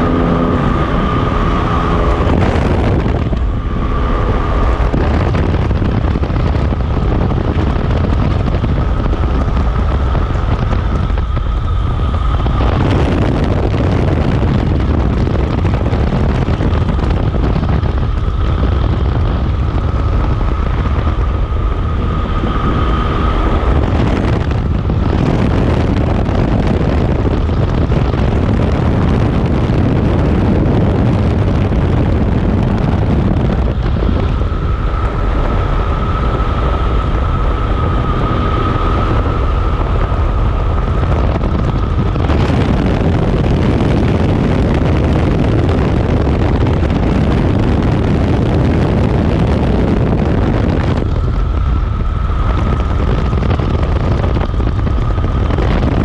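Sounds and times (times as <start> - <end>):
high steady whine: 0.0 - 56.0
moving vehicle rumble: 0.0 - 56.0
wind on microphone: 0.0 - 56.0.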